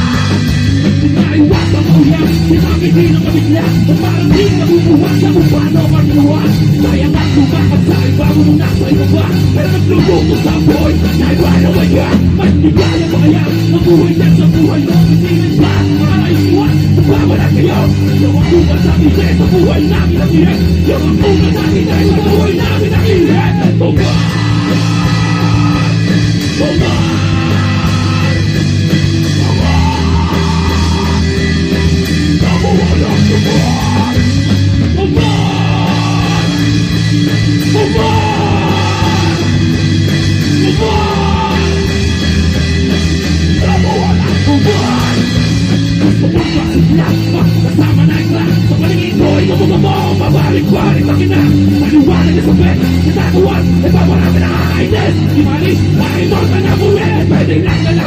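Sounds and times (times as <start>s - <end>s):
person singing into a microphone: 0.0s - 42.6s, 43.4s - 58.0s
live rock band playing: 0.0s - 58.0s.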